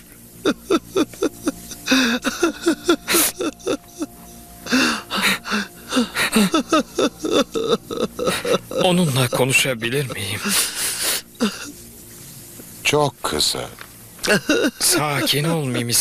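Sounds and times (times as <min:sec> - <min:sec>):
man sobbing: 0:00.4 - 0:11.7, 0:14.2 - 0:16.0.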